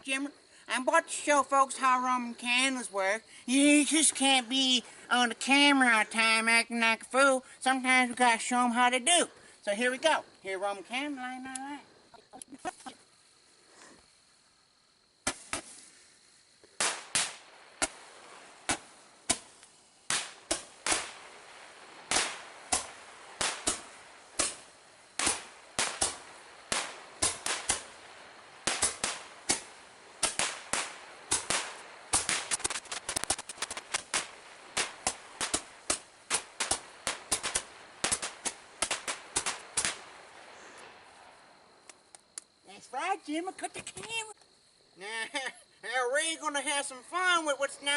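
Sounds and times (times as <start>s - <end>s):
fireworks popping: 0.0s - 14.1s, 15.1s - 44.6s
faint hiss: 0.0s - 47.9s.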